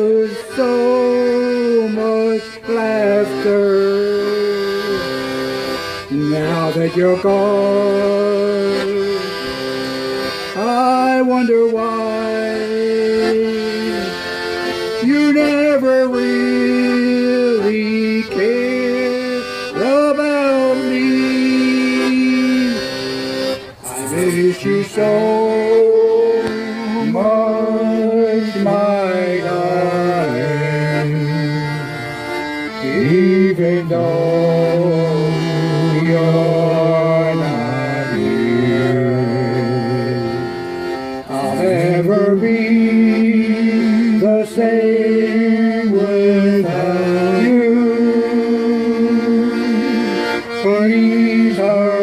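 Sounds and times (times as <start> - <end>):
accordion polka music: 0.0 - 52.0.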